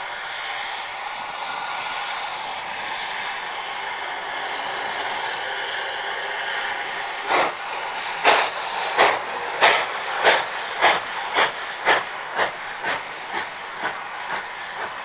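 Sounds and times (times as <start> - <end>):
steam hissing: 0.0 - 15.0
steam locomotive exhaust chuffs: 0.0 - 15.0.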